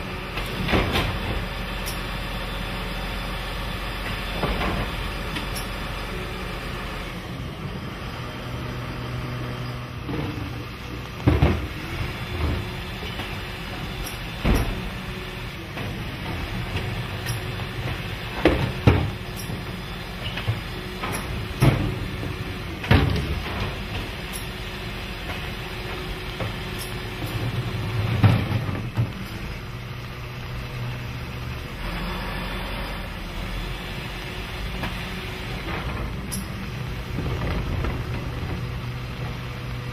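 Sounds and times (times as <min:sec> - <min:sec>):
garbage truck engine and hydraulics hum: 0:00.0 - 0:39.9.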